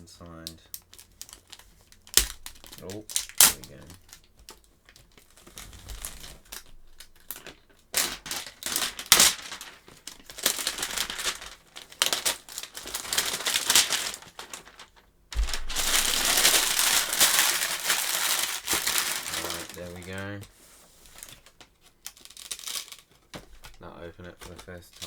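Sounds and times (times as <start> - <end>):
plastic shrink wrap crinkling: 0.0 - 25.0.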